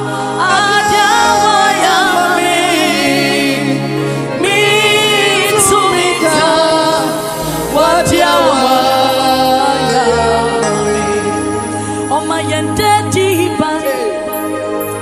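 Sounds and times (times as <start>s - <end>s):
gospel singing with vibrato: 0.0s - 15.0s
sustained held chords: 0.0s - 15.0s.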